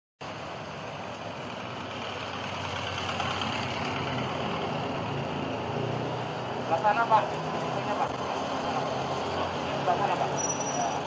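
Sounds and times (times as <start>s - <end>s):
vehicle engines humming: 0.2s - 11.0s.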